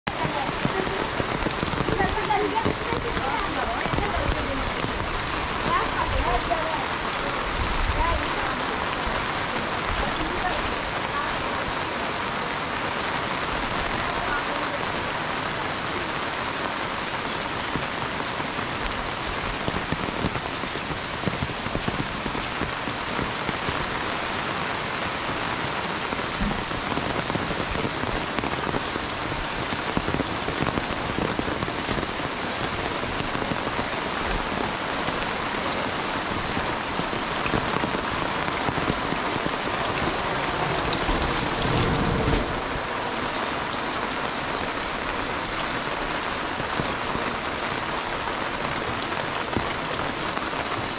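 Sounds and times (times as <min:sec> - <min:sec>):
heavy rain on umbrella: 0:00.0 - 0:50.9.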